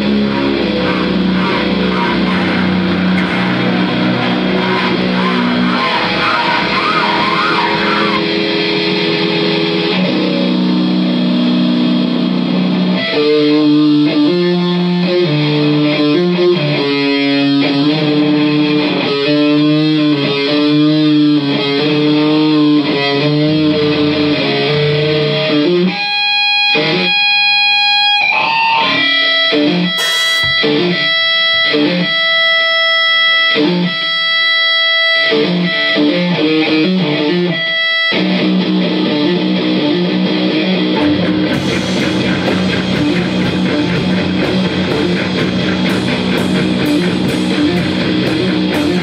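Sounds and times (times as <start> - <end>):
live band with electric guitar: 0.0 - 49.0.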